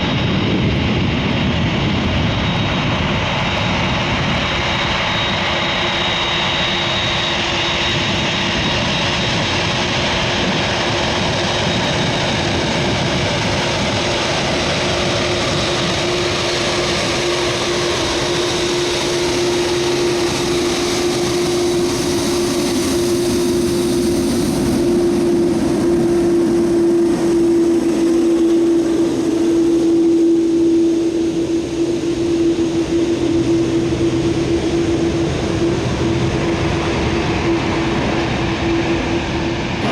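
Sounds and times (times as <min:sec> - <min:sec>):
jet engines rushing hum: 0:00.0 - 0:39.9.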